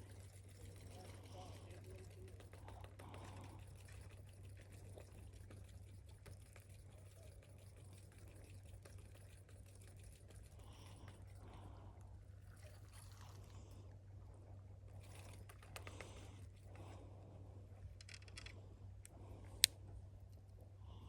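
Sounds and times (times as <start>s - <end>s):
trickling lapping water: 0.0s - 17.8s
steady low hum: 0.0s - 21.0s.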